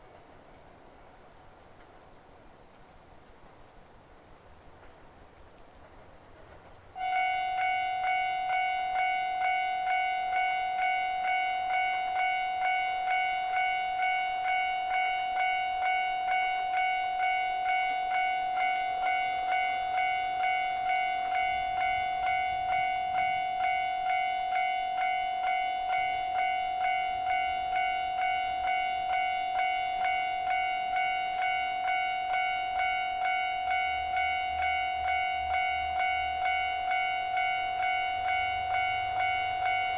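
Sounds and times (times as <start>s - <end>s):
level crossing warning bell: 7.0s - 39.9s.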